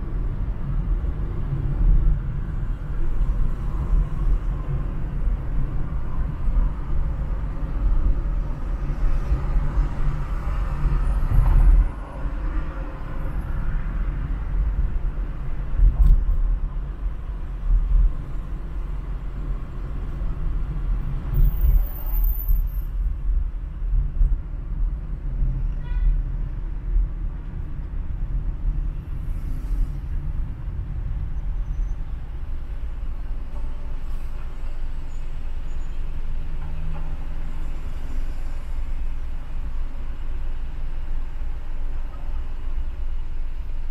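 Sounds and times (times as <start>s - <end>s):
low rumble of engines and tyres: 0.0s - 43.9s.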